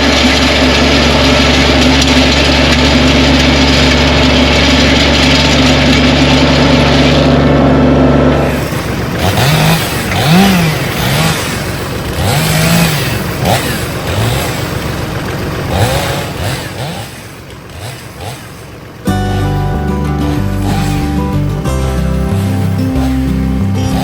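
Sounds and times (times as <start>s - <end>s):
engine idling: 0.0s - 24.0s
engine revving: 0.0s - 24.0s.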